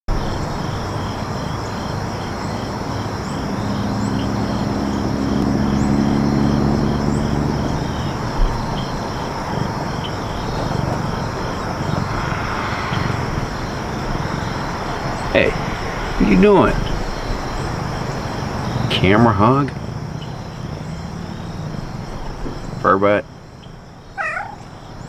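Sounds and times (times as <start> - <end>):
crickets chirping: 0.1 - 25.0
distant engine drone: 0.1 - 25.0.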